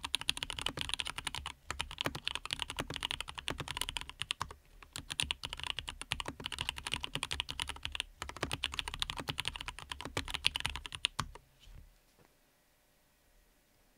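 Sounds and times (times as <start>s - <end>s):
fast typing on mechanical keyboard: 0.0s - 11.4s.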